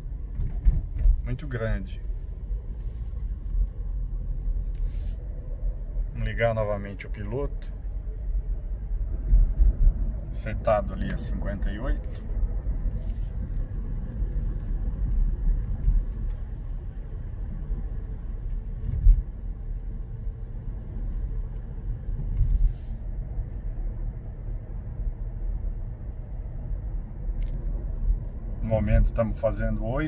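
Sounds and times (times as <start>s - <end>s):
in-cabin road and engine noise: 0.0s - 30.0s.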